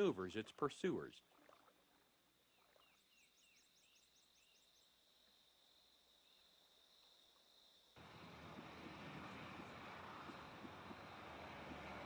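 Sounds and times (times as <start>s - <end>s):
faint insect-like hum: 0.1s - 12.0s.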